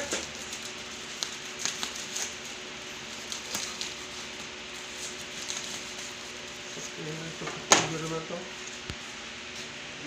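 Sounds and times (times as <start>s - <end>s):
knife cutting plastic wrapping: 0.0s - 8.2s.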